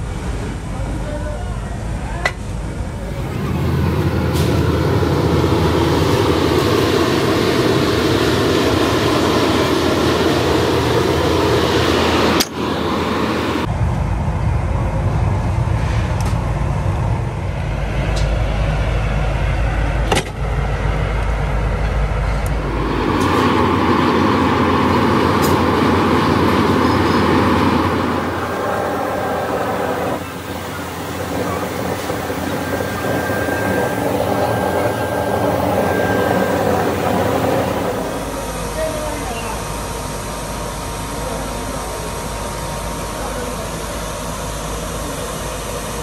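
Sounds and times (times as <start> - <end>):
foundry machinery roar: 0.0 - 46.0.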